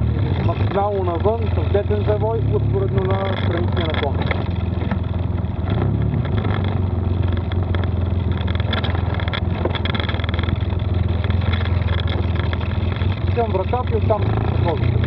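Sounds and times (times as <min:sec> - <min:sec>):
vehicle engine running under throttle: 0:00.0 - 0:15.0
vehicle knocks and rattles: 0:00.1 - 0:15.0.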